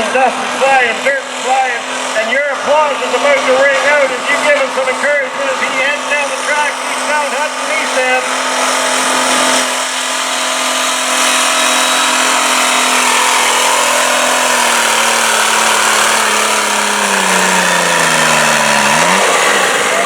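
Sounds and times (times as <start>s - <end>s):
tractor engine under load: 0.0s - 20.0s.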